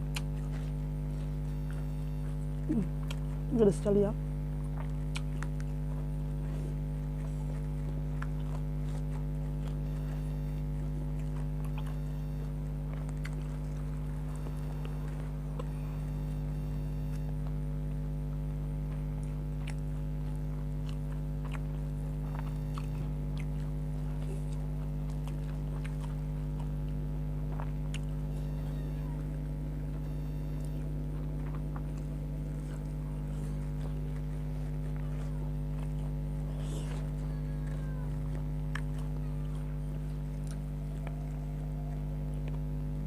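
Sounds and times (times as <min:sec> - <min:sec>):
chewing and mouth sounds: 0:00.0 - 0:43.0
electrical hum: 0:00.0 - 0:43.0.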